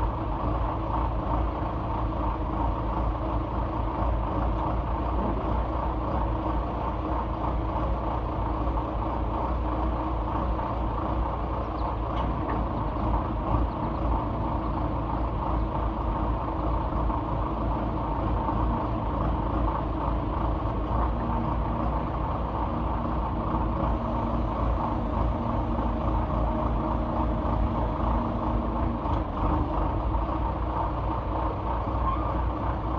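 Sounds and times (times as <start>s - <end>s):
construction equipment engine rumbling: 0.0s - 32.9s.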